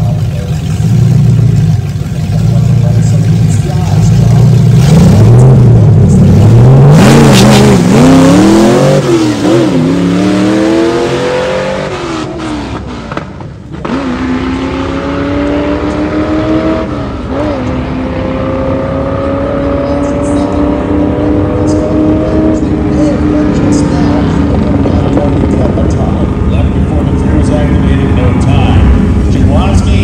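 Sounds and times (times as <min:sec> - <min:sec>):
drag car engine accelerating: 0:00.0 - 0:30.0.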